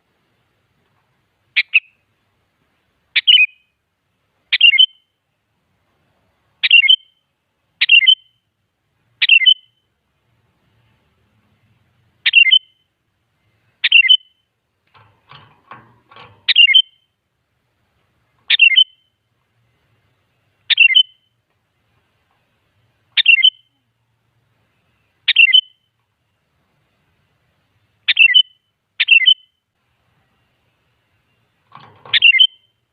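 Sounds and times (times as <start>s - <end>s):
bird chirping: 1.4s - 2.2s, 3.1s - 3.8s, 4.4s - 5.5s, 6.4s - 10.0s, 10.9s - 17.3s, 18.3s - 23.9s, 24.6s - 32.9s.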